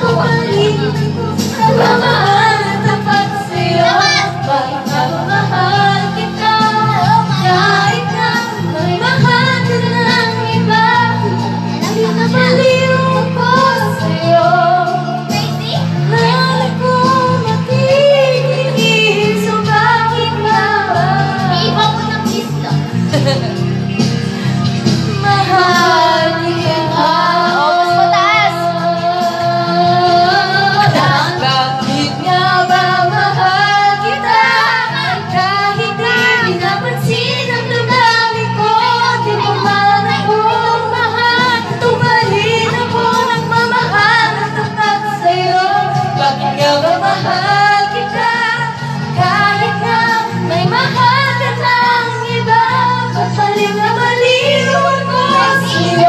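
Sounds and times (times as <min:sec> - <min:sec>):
girl singing into a microphone: 0:00.0 - 0:23.4, 0:24.8 - 0:56.0
backing music: 0:00.0 - 0:56.0.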